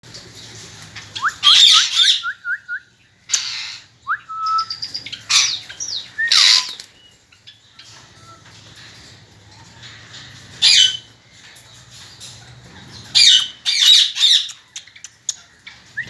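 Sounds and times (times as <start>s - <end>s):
parrots chirping and screeching: 0.3s - 2.3s, 3.2s - 16.0s.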